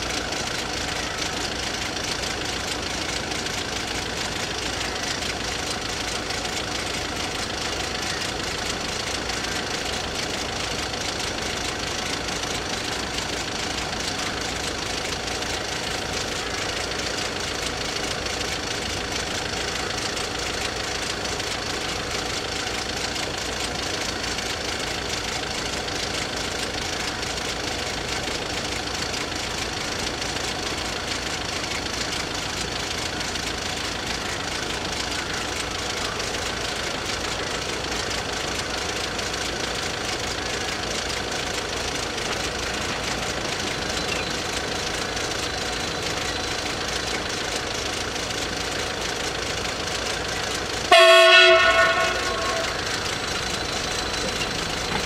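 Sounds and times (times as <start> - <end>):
level-crossing warning bells ringing: 0.0 - 55.0.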